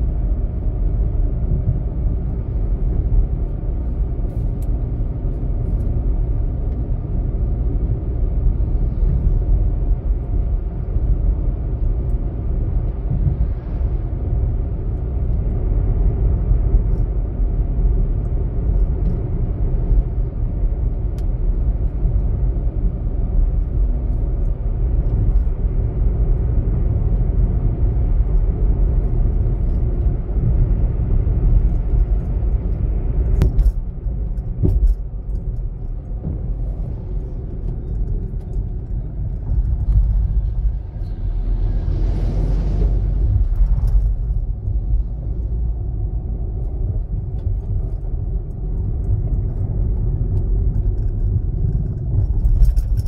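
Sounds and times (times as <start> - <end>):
vehicle driving on paved road: 0.0 - 53.0.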